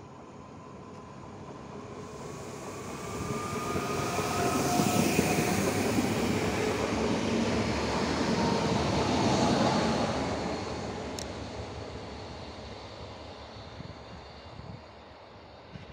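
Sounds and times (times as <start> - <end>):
train wheels rumbling on rail: 0.8 - 15.9.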